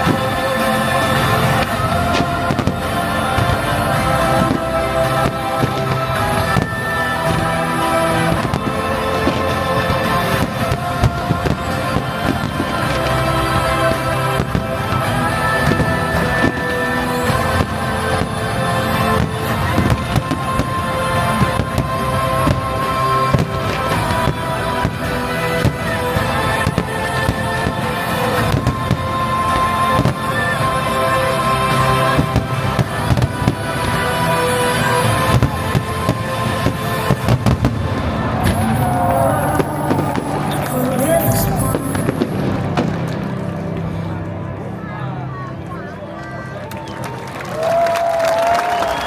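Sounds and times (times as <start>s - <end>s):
fireworks bursting: 0.0s - 44.4s
music soundtrack: 0.0s - 49.0s.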